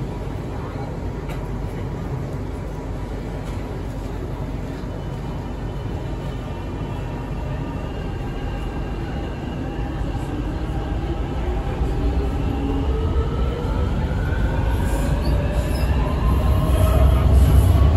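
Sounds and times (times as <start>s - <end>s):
train running gear rumble: 0.0s - 17.9s.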